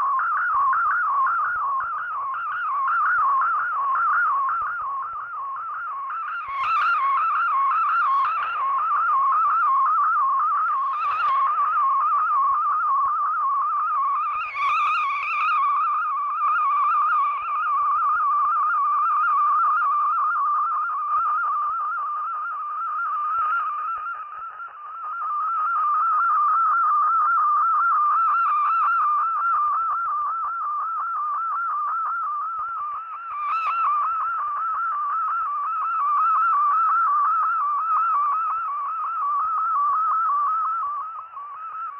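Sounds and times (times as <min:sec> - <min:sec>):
warbling data signal tone: 0:00.0 - 0:41.9.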